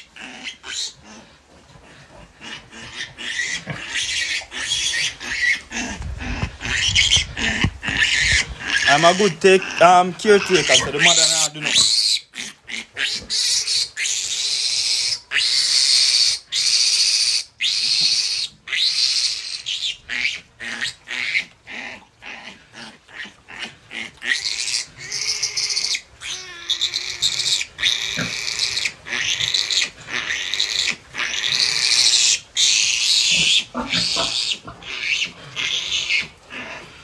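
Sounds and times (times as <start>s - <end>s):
piglet squealing: 0.0s - 1.2s, 2.4s - 37.0s.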